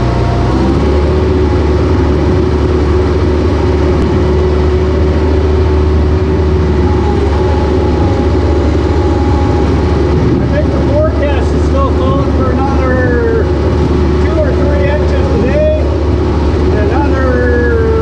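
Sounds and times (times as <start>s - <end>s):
heavy engine droning: 0.0s - 18.0s.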